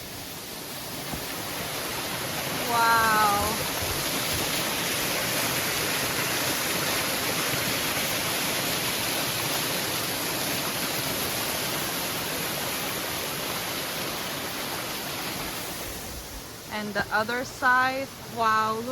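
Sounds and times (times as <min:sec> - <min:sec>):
waterfall rushing: 0:00.0 - 0:18.8.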